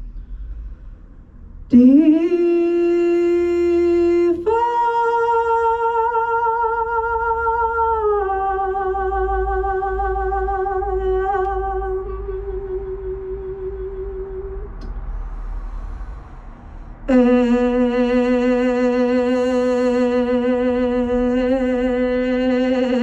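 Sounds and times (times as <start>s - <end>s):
woman singing into microphone: 1.7s - 14.8s, 17.1s - 23.0s.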